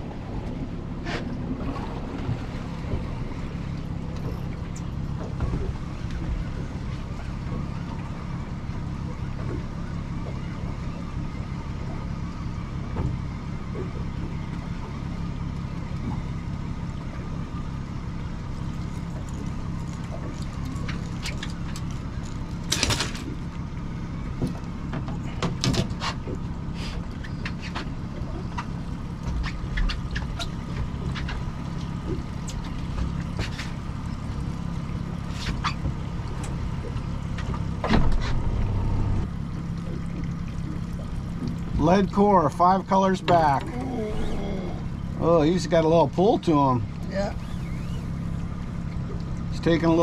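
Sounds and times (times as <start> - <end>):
outboard motor running: 0.0 - 50.0.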